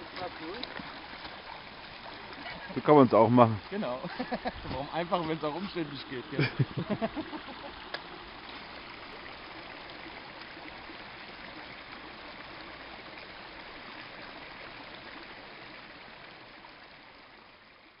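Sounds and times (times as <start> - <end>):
stream flowing: 0.0 - 18.0.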